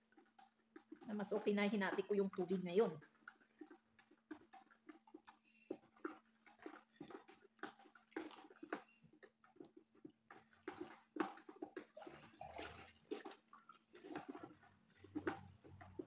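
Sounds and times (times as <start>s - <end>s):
soapy liquid sloshing: 0.0s - 16.0s.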